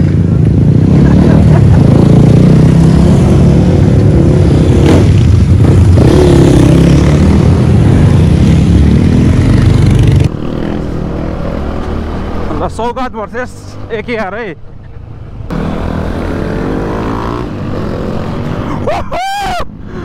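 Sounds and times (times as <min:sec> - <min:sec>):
motorcycles riding past: 0:00.0 - 0:12.9, 0:15.5 - 0:18.9.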